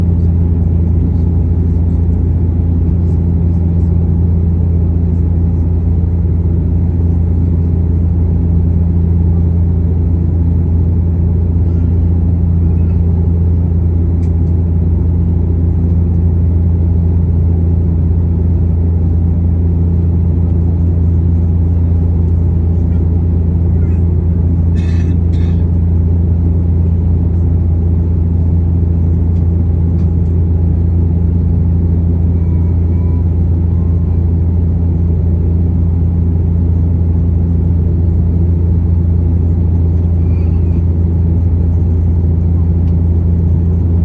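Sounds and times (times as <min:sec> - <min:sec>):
passenger plane cabin drone: 0:00.0 - 0:44.0.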